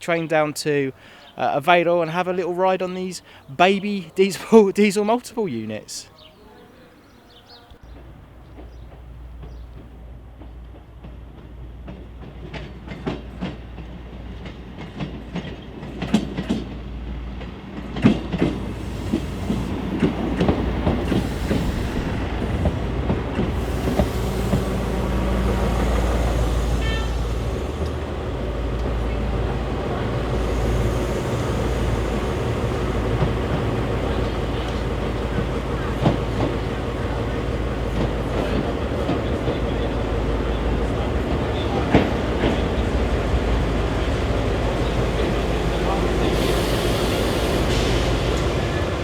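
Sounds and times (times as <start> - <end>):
diesel train rumble: 0.0 - 49.0
train wheels clicking over rail joints: 7.8 - 49.0.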